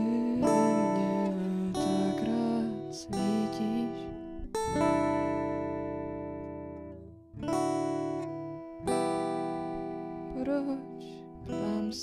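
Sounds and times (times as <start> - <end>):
acoustic guitar chords ringing: 0.0 - 12.0.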